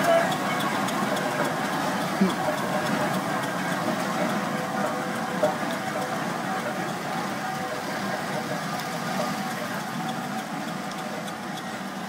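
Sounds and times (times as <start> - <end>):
steam engine running: 0.0 - 12.0.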